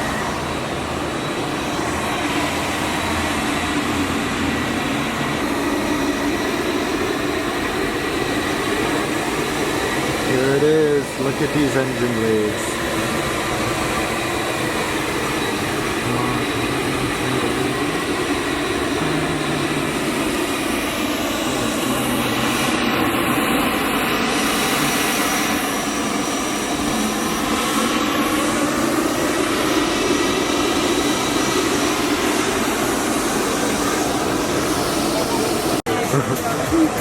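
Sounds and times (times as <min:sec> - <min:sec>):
faint high whine: 0:00.0 - 0:35.8
jet engine noise: 0:00.0 - 0:37.0.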